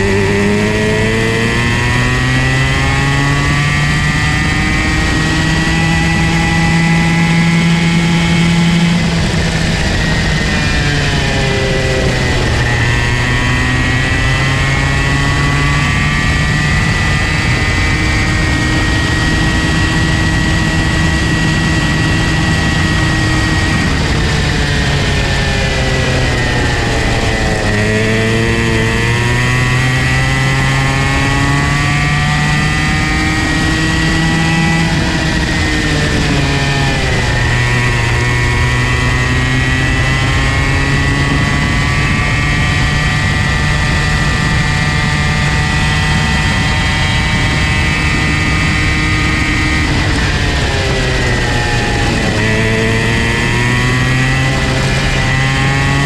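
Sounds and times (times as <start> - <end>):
go-kart engine at high revs: 0.0 - 56.0.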